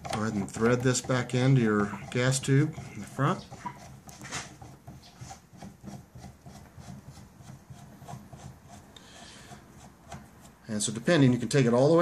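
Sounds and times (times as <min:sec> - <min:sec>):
metal threads scraping and ticking: 0:00.0 - 0:11.4.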